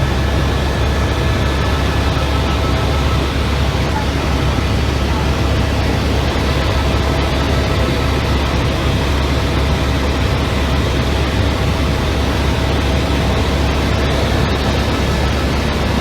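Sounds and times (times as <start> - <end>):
faint constant whine: 0.0 - 16.0
helicopter engine and rotor drone: 0.0 - 16.0.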